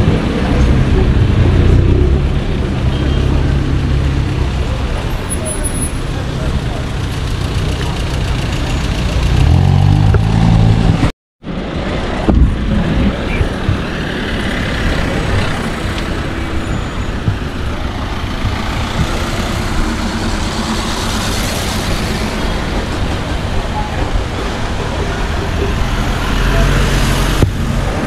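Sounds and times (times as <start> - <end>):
car engines running: 0.0 - 28.0
street traffic noise: 0.0 - 28.0.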